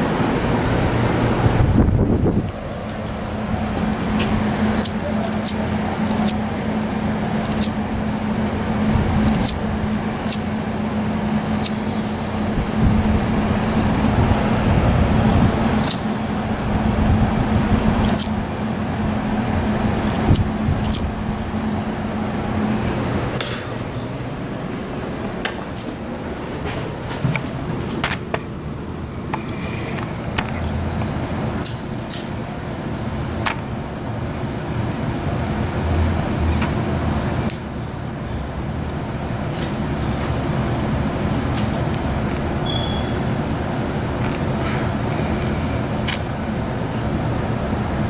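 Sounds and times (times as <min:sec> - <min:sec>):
city traffic noise: 0:00.0 - 0:48.0.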